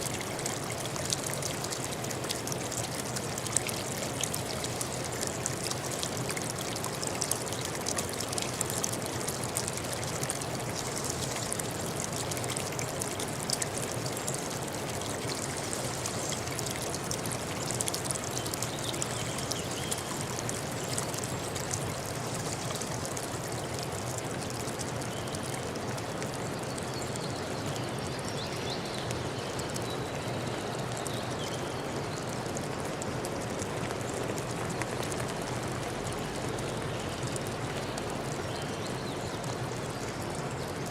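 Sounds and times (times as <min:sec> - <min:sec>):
forest stream running: 0:00.0 - 0:40.9.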